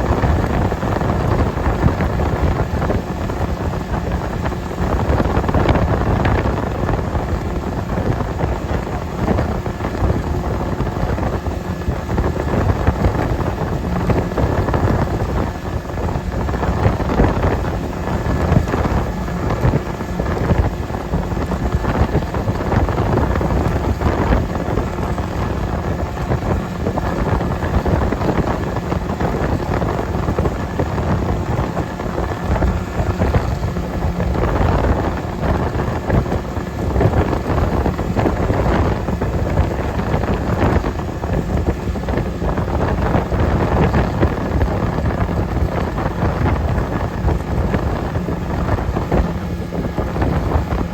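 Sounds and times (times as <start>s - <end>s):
rushing water and spray: 0.0s - 50.9s
wind buffeting microphone: 0.0s - 50.9s.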